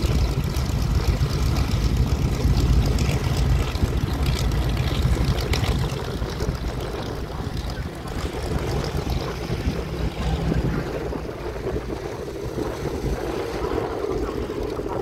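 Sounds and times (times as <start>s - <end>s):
propeller plane engines roaring: 0.0s - 15.0s
wind buffeting microphone: 0.0s - 15.0s.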